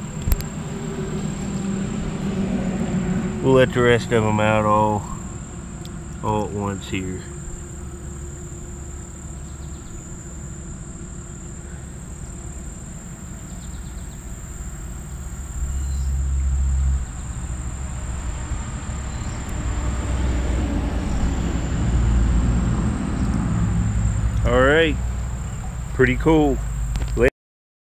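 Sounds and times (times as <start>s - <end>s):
creek water rumbling on camera: 0.0s - 27.2s
high insect drone: 0.0s - 27.3s.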